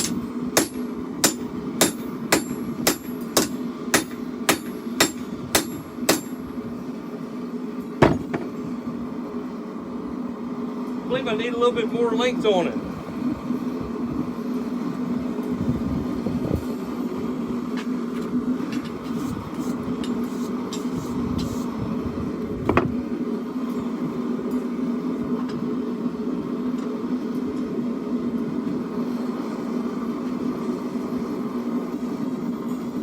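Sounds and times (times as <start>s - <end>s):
steady mechanical drone: 0.0s - 33.0s.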